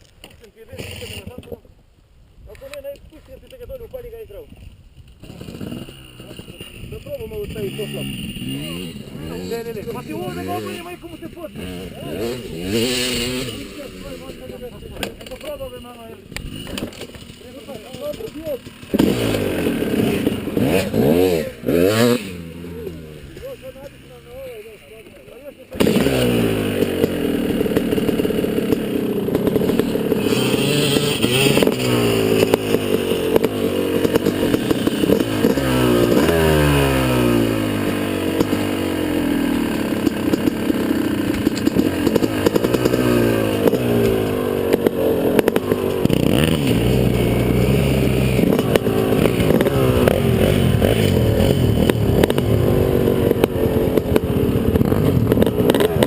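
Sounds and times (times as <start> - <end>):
motorcycle engine revving: 4.3 - 56.0.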